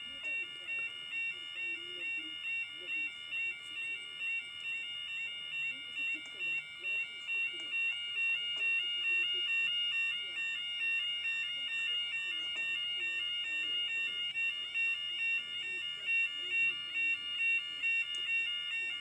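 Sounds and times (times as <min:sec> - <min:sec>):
level crossing warning alarm: 0:00.0 - 0:19.0.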